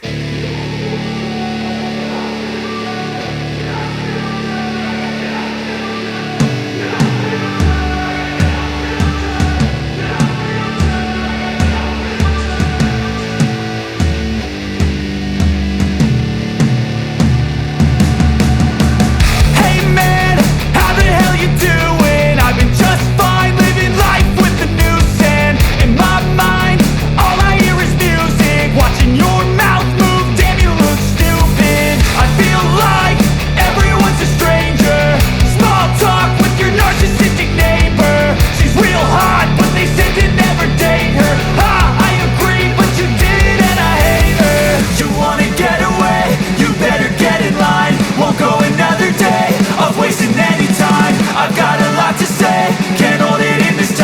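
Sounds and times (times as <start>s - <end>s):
rock music with guitar chords: 0.0s - 54.0s.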